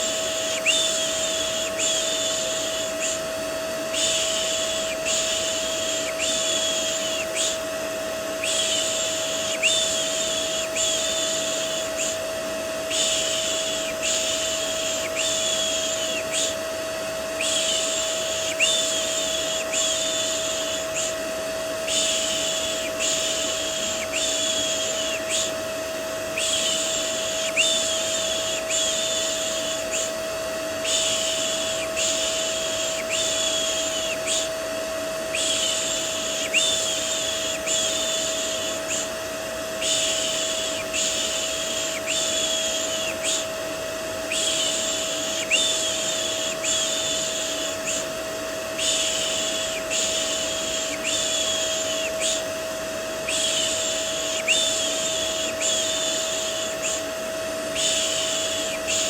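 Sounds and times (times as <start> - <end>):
vacuum cleaner humming: 0.0 - 59.0.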